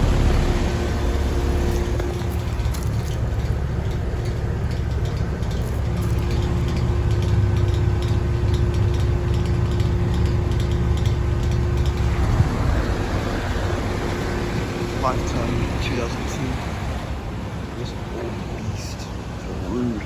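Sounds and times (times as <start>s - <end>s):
heat pump compressor hum: 0.0s - 20.0s
outdoor fan rushing: 0.0s - 20.0s.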